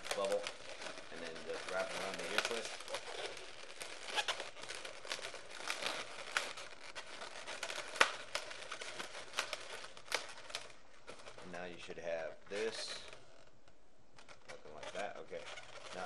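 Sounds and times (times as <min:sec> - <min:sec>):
rubbing and crinkling of balloons: 0:00.0 - 0:16.0.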